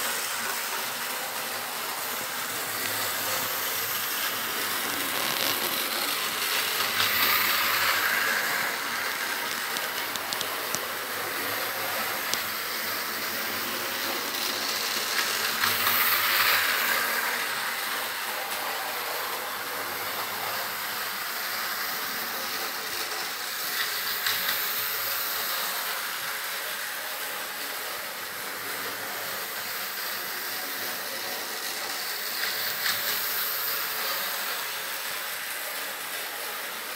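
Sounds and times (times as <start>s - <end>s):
locomotive steady hiss: 0.0s - 36.9s.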